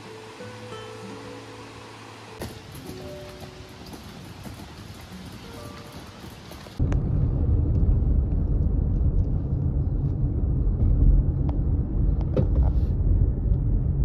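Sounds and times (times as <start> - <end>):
tyre and engine rumble in car: 2.4 - 14.0.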